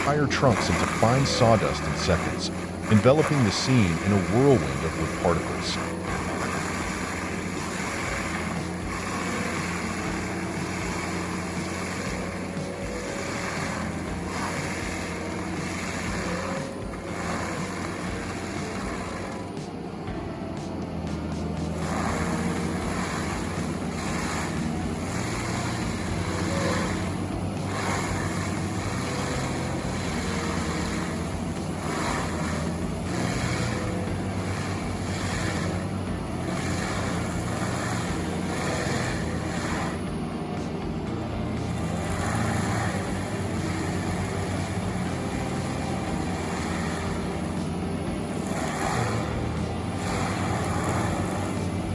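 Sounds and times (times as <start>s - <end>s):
rushing noise: 0.0s - 51.9s
wood grinder running: 0.0s - 51.9s.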